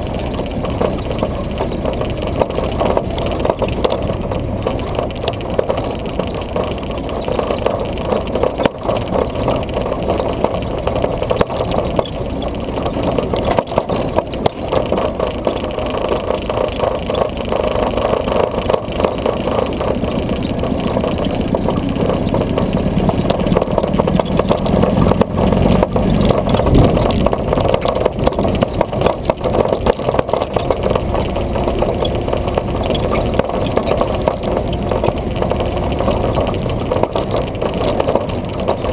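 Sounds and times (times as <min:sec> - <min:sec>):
jeep engine running: 0:00.0 - 0:38.9.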